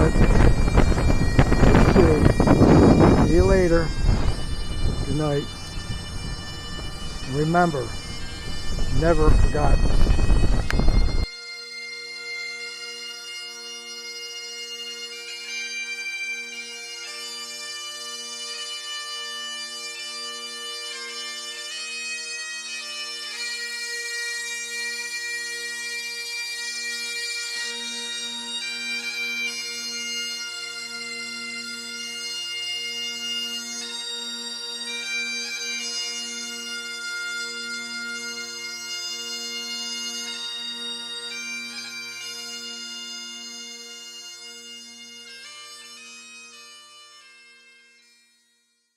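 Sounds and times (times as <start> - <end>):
bagpipes playing slow melody: 0.0 - 48.9.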